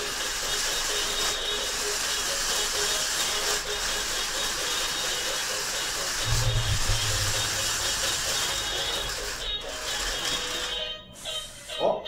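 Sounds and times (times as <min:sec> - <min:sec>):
toy car electric motors whirring: 0:00.0 - 0:12.0.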